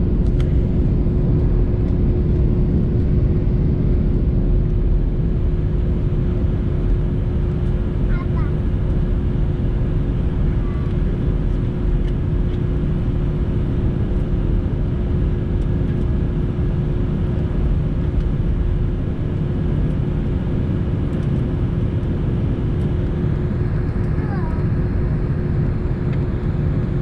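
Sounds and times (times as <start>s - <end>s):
airliner rumble: 0.0s - 27.0s.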